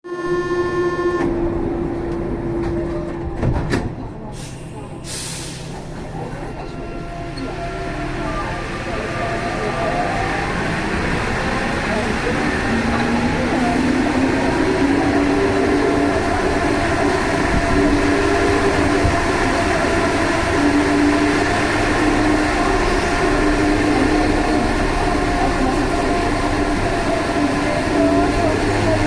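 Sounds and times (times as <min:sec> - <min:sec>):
metro train running: 0:00.1 - 0:29.0.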